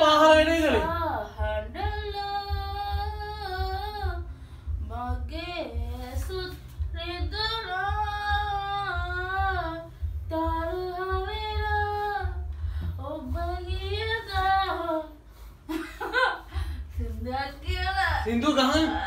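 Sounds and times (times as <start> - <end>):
woman singing unaccompanied: 0.0 - 15.2, 16.9 - 19.0.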